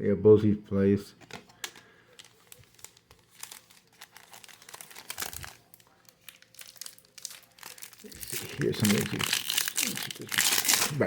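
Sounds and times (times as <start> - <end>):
wrapper crinkling: 1.2 - 11.0.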